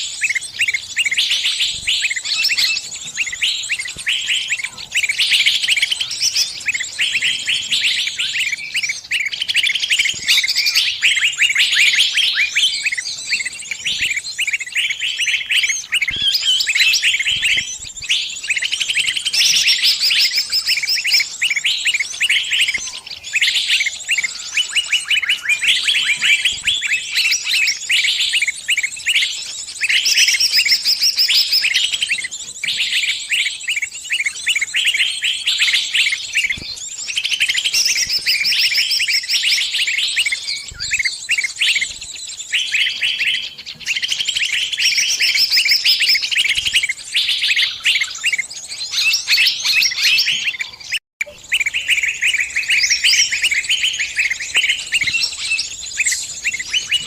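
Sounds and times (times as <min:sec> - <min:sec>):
small bird distress calls: 0:00.0 - 0:57.0.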